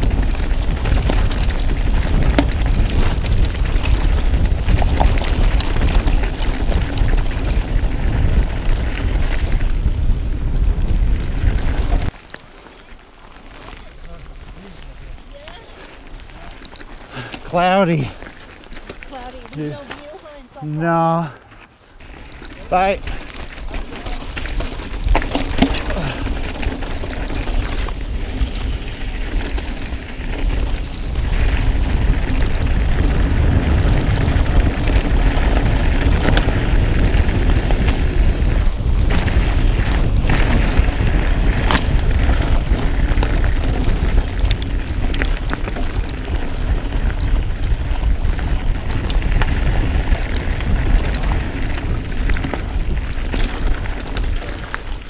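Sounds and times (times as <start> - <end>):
bike rattling and knocking: 0.0 - 12.6, 22.0 - 55.0
wind rumbling on microphone: 0.0 - 55.0.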